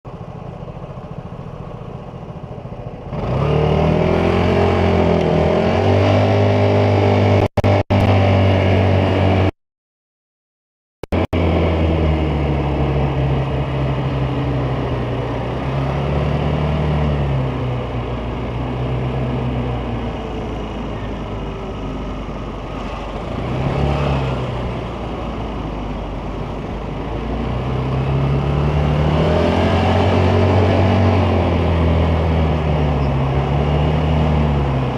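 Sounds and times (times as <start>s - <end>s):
scooter engine while riding: 0.1s - 9.5s, 11.1s - 34.9s.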